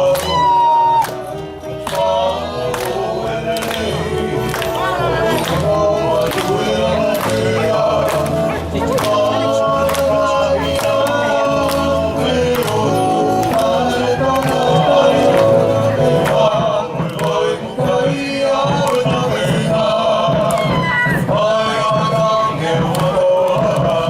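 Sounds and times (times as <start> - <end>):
group of voices singing in harmony: 0.0 - 24.0
steady drum beat: 0.2 - 24.0.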